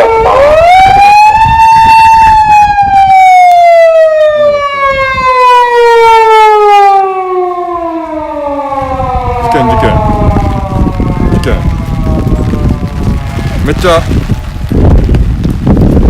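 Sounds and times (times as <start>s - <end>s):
fire engine siren wailing: 0.0s - 15.5s
wind rumbling on microphone: 0.0s - 16.0s.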